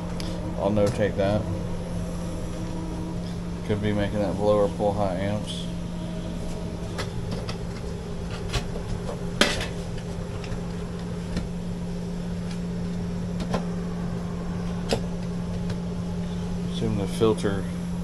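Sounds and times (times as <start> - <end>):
air handler humming: 0.0 - 18.0.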